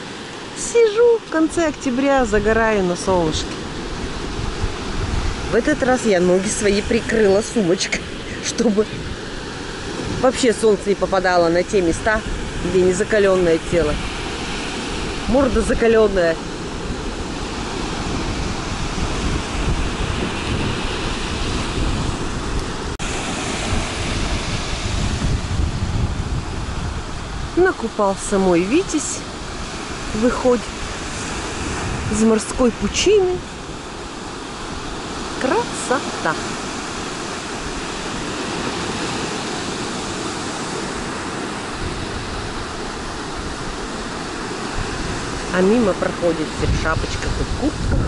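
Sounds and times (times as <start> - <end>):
surf washing onto beach: 0.0 - 48.0
wind buffeting microphone: 0.0 - 48.0.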